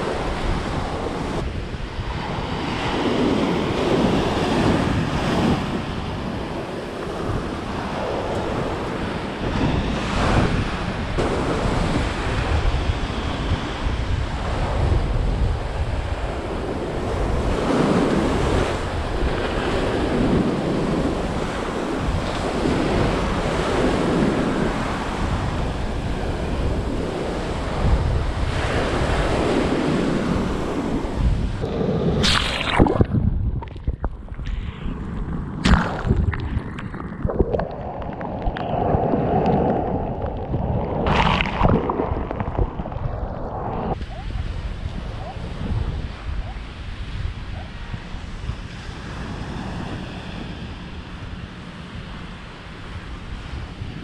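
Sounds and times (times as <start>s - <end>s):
ocean surf washing on sand: 0.0s - 54.0s
wind buffeting microphone: 0.0s - 54.0s.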